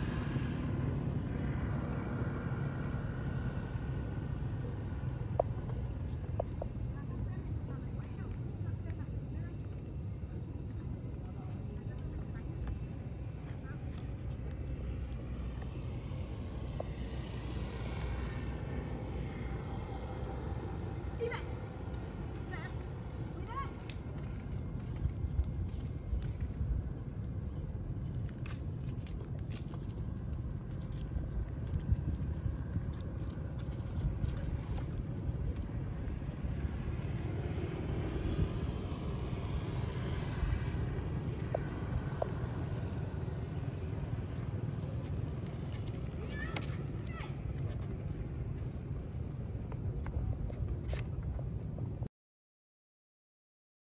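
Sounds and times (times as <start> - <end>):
outdoor background rumble: 0.0 - 52.1.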